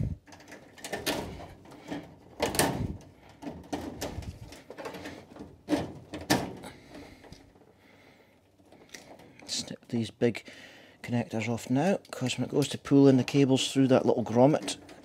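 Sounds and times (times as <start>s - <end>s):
cables being handled: 0.0s - 10.0s, 11.0s - 15.0s.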